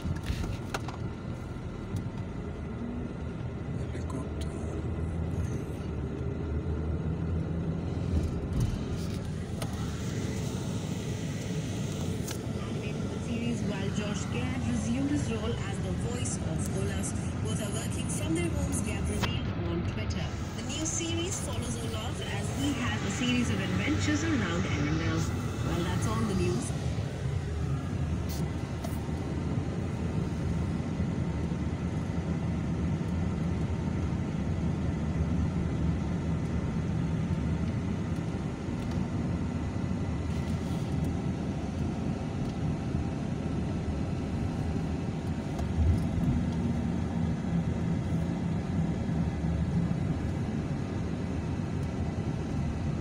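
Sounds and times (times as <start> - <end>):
car cabin road noise: 0.0 - 53.0.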